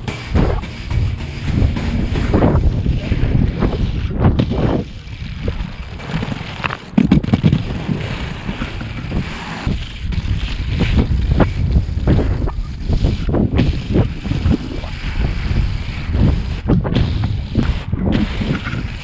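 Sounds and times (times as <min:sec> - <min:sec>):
skate scrapes and clicks: 0:00.0 - 0:19.0
wind buffeting microphone: 0:00.0 - 0:19.0
inline skates rolling on asphalt: 0:00.6 - 0:19.0.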